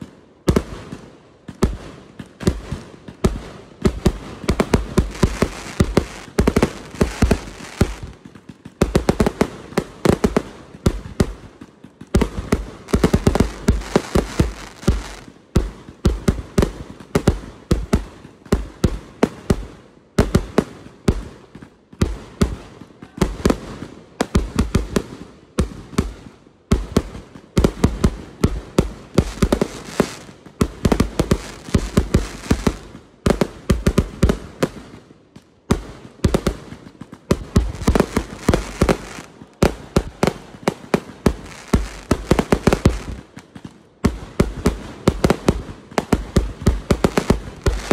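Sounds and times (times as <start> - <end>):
fireworks bangs: 0.0 - 19.6, 20.3 - 35.0, 35.6 - 47.9.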